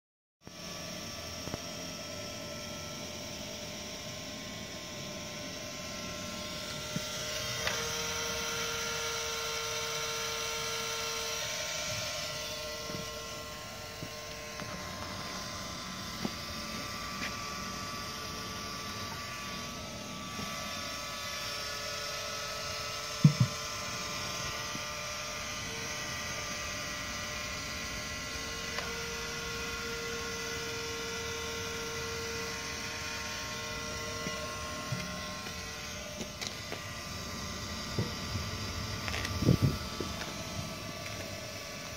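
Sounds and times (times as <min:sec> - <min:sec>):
rotisserie motor humming: 0:00.4 - 0:41.9.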